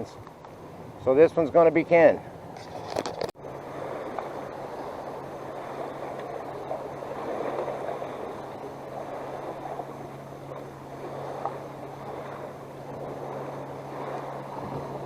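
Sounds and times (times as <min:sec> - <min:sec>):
steady low hum: 0:00.0 - 0:15.0
water gurgling and lapping: 0:00.0 - 0:15.0.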